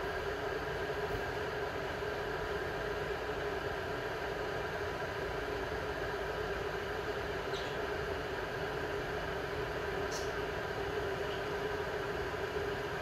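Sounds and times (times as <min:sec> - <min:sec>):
electric kettle hissing: 0:00.0 - 0:13.0.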